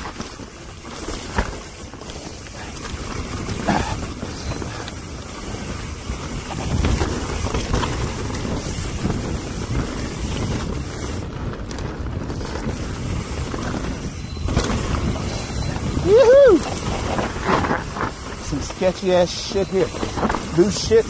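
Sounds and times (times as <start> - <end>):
bike rattling and clicking: 0.0 - 21.0
tyres rumbling on dirt: 0.0 - 21.0
wind on microphone: 0.0 - 21.0.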